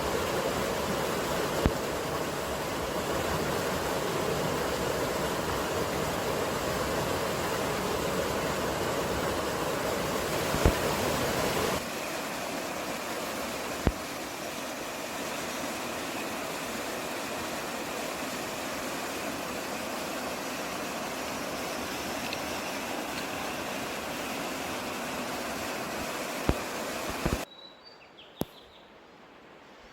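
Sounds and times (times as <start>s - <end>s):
mountain stream rushing: 0.0s - 27.5s.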